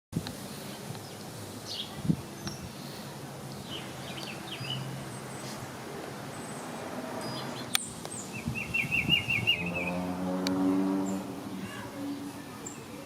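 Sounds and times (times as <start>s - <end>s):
steady background noise: 0.2s - 13.0s
birds chirping and trilling: 0.6s - 13.0s.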